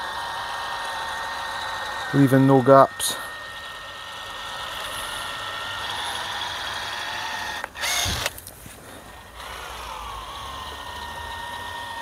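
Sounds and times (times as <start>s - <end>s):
caulking gun motor whining: 0.0s - 12.0s.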